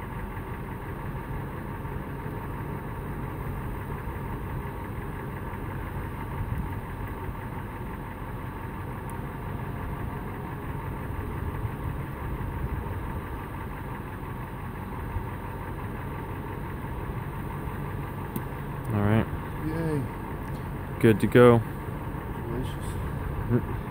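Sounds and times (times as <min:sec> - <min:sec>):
vehicle engine idling: 0:00.0 - 0:23.9.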